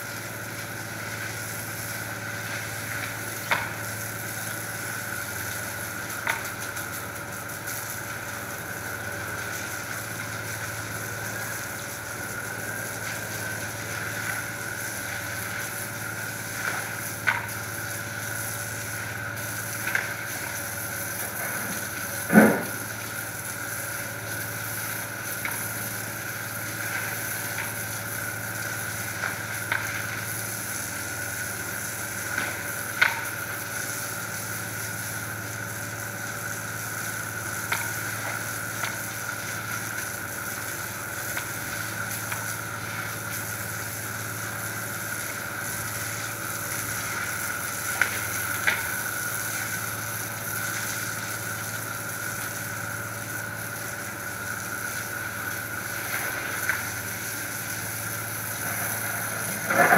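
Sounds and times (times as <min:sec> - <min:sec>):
hose spraying water on paving: 0:00.0 - 0:59.9.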